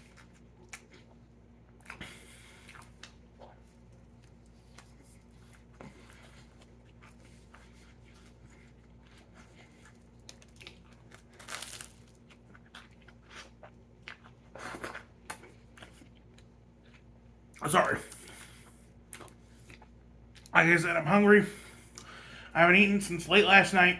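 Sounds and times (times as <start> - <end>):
chewing and biting sandwich: 0.0 - 20.6.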